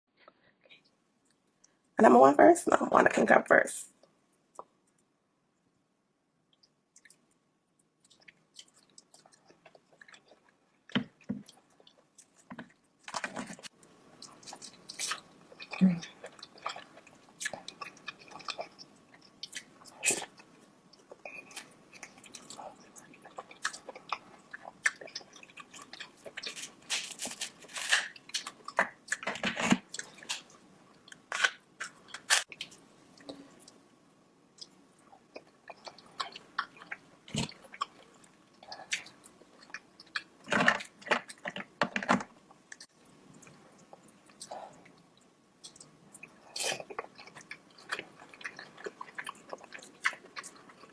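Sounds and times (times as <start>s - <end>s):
wet chewing and crunches: 8.0s - 33.8s, 34.6s - 45.0s, 45.6s - 50.9s.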